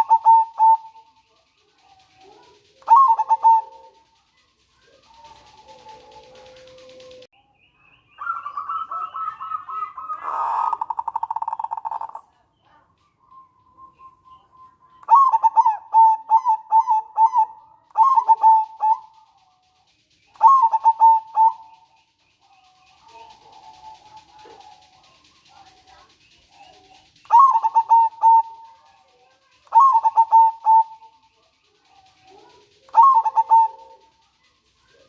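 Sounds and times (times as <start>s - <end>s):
dove cooing: 0.0s - 7.3s, 8.2s - 19.6s, 20.3s - 35.0s
dove rattling trill: 0.0s - 7.3s, 8.2s - 35.0s.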